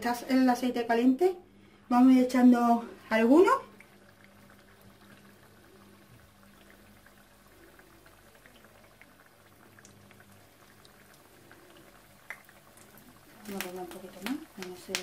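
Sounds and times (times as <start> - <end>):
dough frying in hot oil: 1.9 - 15.0.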